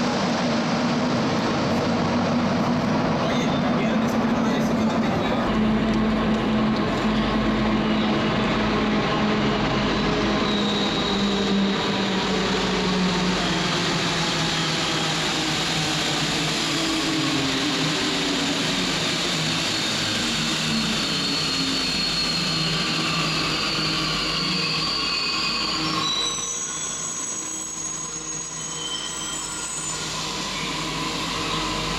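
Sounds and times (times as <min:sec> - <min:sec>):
train running through station: 0:00.0 - 0:31.9.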